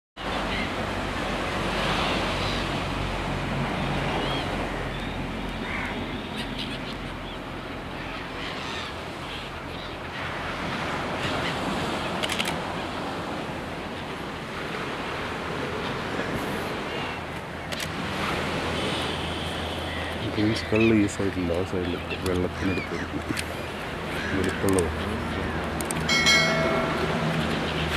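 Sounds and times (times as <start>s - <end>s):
surf washing onto a beach: 0.2s - 6.2s, 6.8s - 27.9s
seabirds calling: 0.2s - 27.9s.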